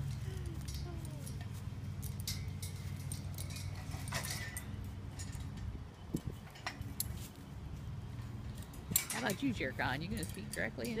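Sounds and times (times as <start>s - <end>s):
metal chain and hooks clinking: 0.0s - 7.2s, 8.2s - 11.0s.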